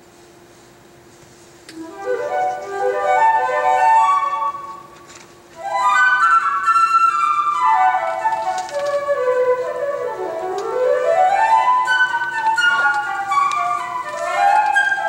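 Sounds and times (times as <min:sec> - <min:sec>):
solo flute playing: 0:01.7 - 0:15.0.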